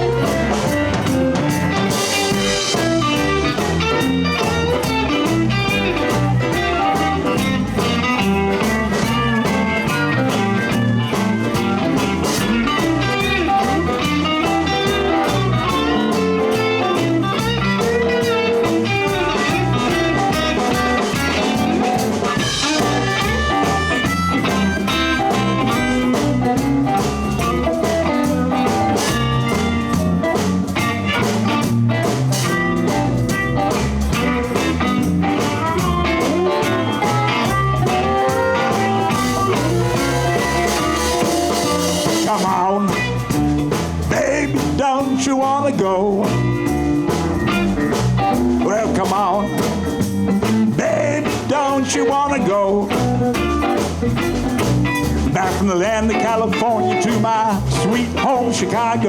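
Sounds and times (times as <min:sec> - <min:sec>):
electric guitar: 0:00.0 - 0:59.0
live blues band playing: 0:00.0 - 0:59.0.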